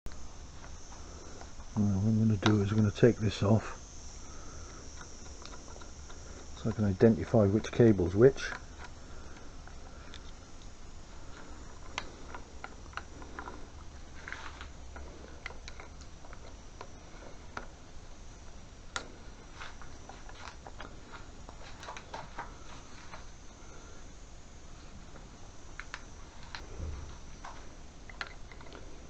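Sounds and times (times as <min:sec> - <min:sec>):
low steady hum: 0:00.1 - 0:29.0.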